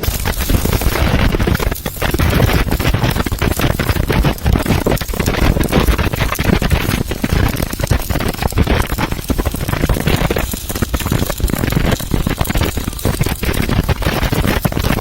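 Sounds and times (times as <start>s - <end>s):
arc welding crackle: 0.0s - 15.0s.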